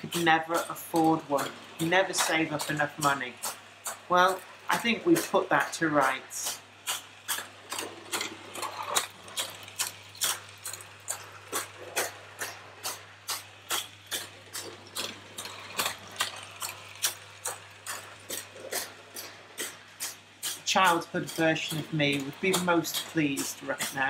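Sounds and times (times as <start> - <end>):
rhythmic clicking of track: 0.0 - 24.0
toy steam locomotive running: 0.0 - 24.0.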